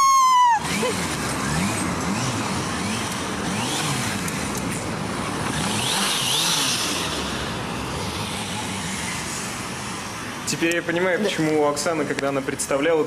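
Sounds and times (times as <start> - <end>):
street noise: 0.0 - 13.0
motorcycle engine revving: 0.6 - 11.0.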